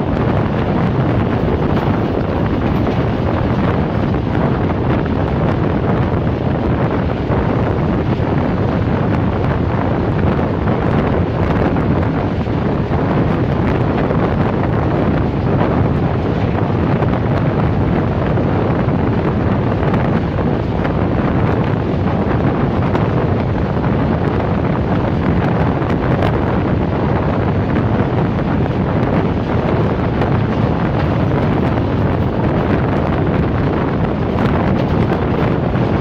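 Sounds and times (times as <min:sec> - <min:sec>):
train running rumble: 0:00.0 - 0:36.0
wind rushing over microphone: 0:00.0 - 0:36.0.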